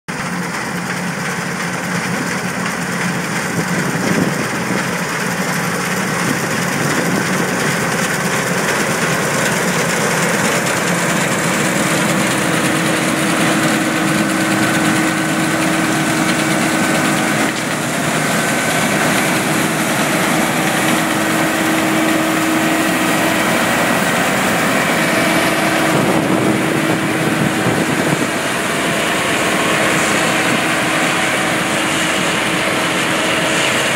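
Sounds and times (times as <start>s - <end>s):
combine harvester drone: 0.1s - 33.9s
constant machine whine: 0.1s - 33.9s.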